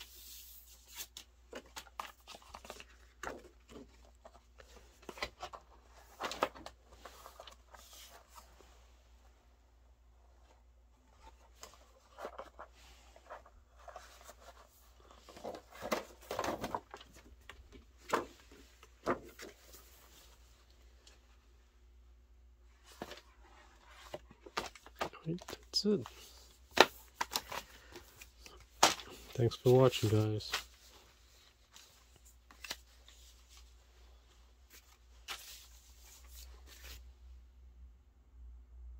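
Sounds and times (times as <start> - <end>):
rustling card pages and plastic: 0.0 - 8.9, 10.4 - 21.5, 22.7 - 37.1.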